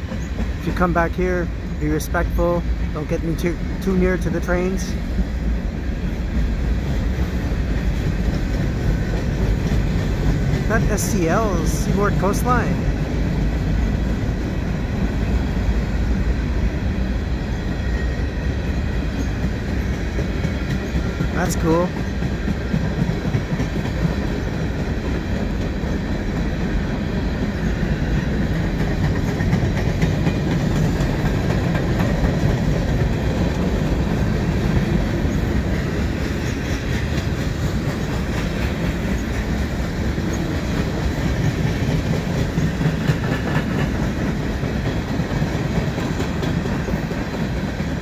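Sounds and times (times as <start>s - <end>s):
freight train wheels rumbling on rails: 0.0s - 48.0s.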